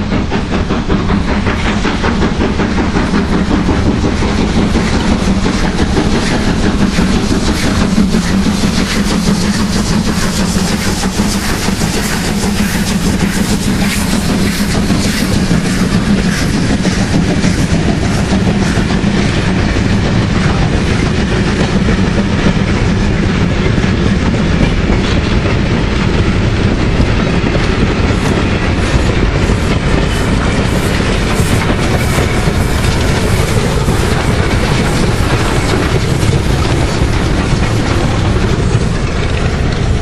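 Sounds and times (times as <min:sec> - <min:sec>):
train wheels clattering over rail joints: 0:00.0 - 0:40.0.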